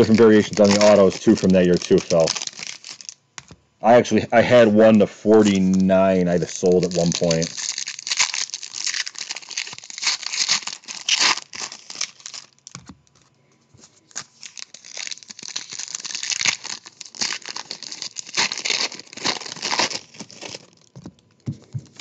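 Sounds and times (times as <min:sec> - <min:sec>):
foil wrappers crinkling and tearing: 0:00.0 - 0:03.5, 0:04.5 - 0:22.0.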